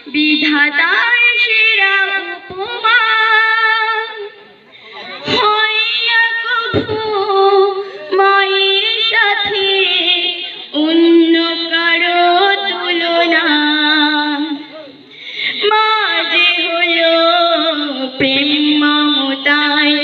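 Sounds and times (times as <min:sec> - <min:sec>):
woman singing devotional song: 0:00.0 - 0:04.4, 0:05.2 - 0:20.0.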